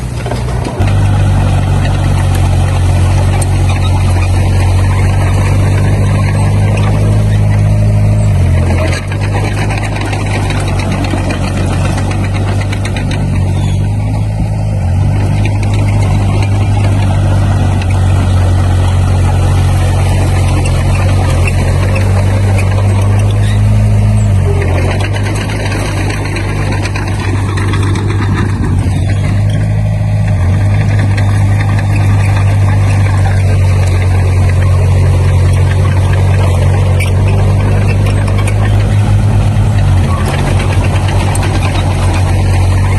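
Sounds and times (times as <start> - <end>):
diesel machinery engine running: 0.0 - 42.9.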